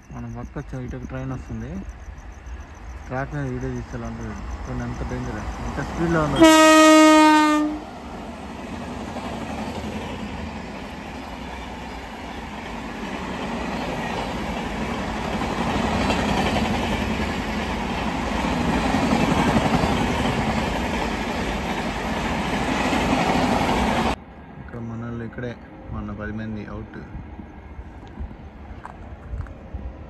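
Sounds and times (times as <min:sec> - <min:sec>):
train wheels rumbling on rails: 0:00.0 - 0:24.2.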